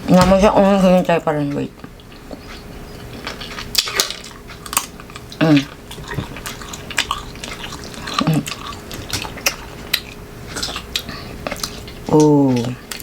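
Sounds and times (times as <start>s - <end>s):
crunching and chewing: 0.8s - 13.0s.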